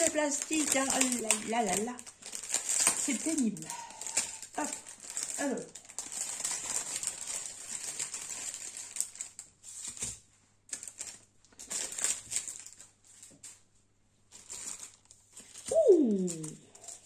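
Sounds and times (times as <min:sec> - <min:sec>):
plastic packaging crinkling: 0:00.0 - 0:13.7, 0:14.3 - 0:17.0.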